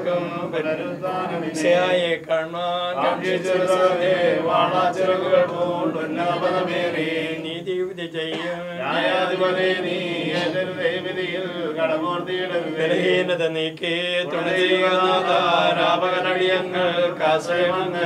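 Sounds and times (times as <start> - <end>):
voices chanting a prayer hymn: 0.0 - 18.0.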